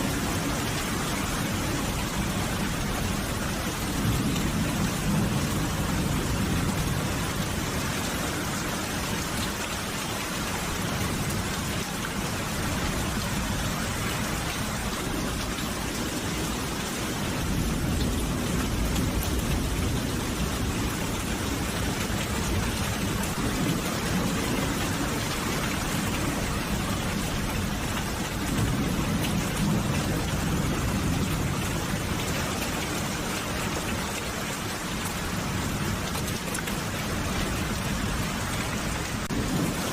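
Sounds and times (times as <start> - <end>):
steady rain falling: 0.0 - 39.9
low rumbles of thunder: 0.1 - 9.5, 10.7 - 33.3, 34.7 - 39.9.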